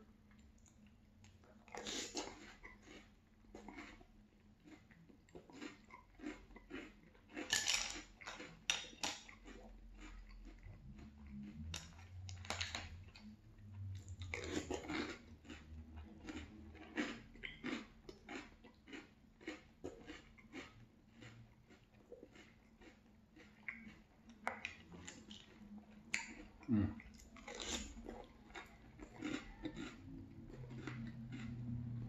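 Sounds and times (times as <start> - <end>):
crunchy cereal chewing: 0.6 - 32.0.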